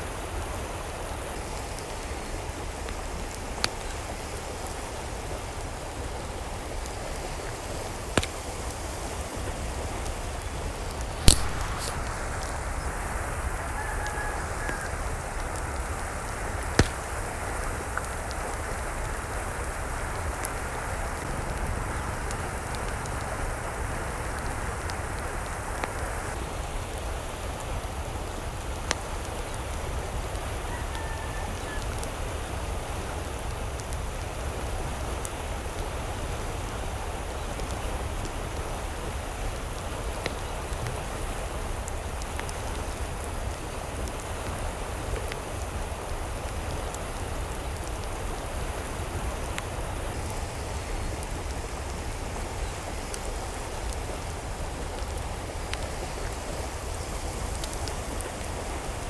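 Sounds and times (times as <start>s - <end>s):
rain falling: 0.0s - 59.0s
raindrops ticking on a surface: 0.0s - 59.0s.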